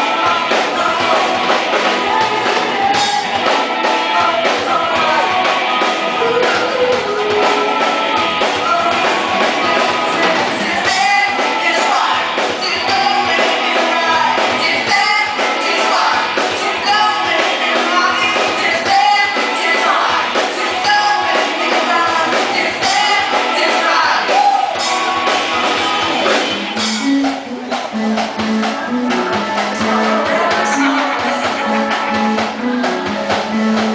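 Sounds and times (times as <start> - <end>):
drum kit: 0.0 - 33.9
electric guitar: 0.0 - 33.9
live band playing amplified music: 0.0 - 33.9
person singing: 0.0 - 33.9.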